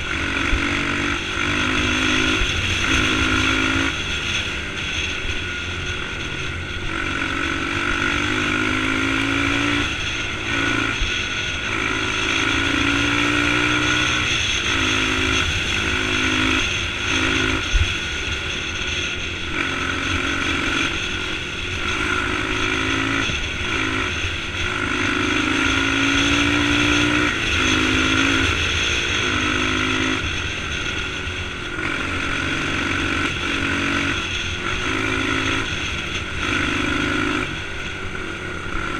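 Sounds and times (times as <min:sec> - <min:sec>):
dirt bike engine revving: 0:00.0 - 0:38.9
steady rushing noise: 0:00.0 - 0:38.9.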